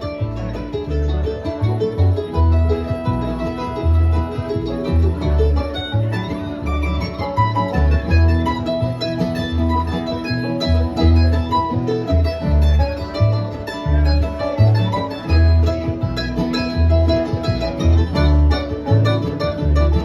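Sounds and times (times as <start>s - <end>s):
acoustic string band playing: 0.0s - 20.0s
low bass notes: 0.0s - 20.0s.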